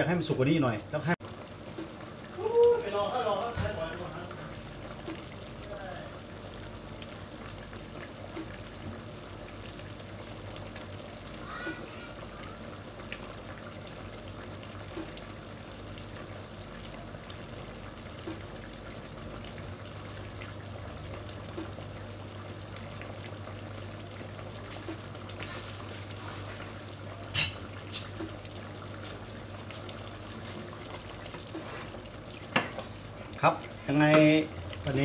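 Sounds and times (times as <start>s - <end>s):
curry bubbling in a pot: 0.0s - 35.0s.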